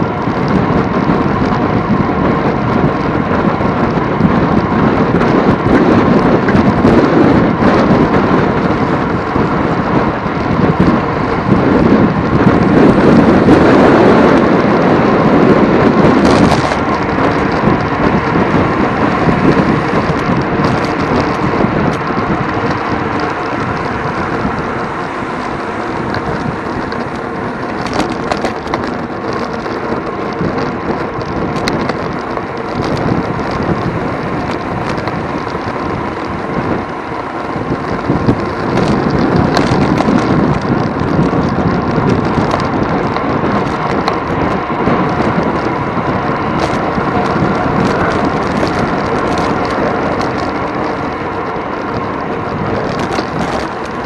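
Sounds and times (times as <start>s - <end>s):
bicycle road rattle: 0.0s - 54.0s
wind buffeting: 0.0s - 54.0s.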